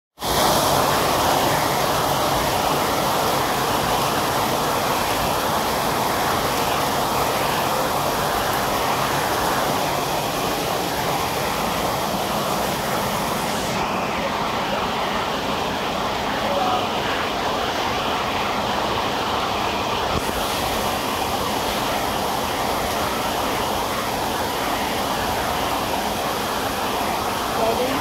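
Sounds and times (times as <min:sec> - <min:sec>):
heavy rain falling: 0:00.2 - 0:28.0.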